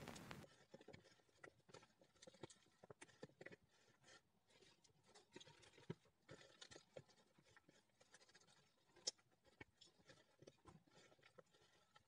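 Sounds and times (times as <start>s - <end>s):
gloved hands squelching paste: 0.0s - 12.0s.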